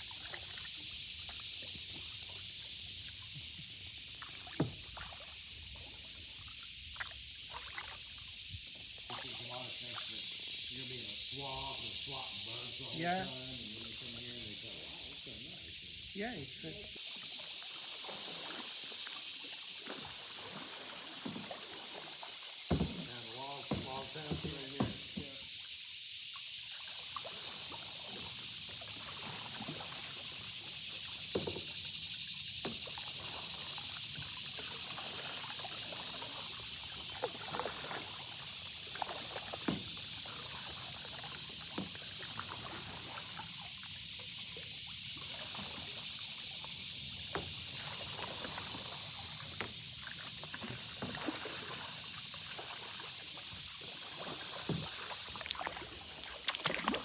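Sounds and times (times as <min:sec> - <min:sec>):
water dripping off paddle: 0:00.0 - 0:16.2, 0:17.0 - 0:25.7, 0:26.3 - 0:57.0
steady high hiss: 0:00.0 - 0:56.1
paddle strokes in water: 0:00.0 - 0:57.0.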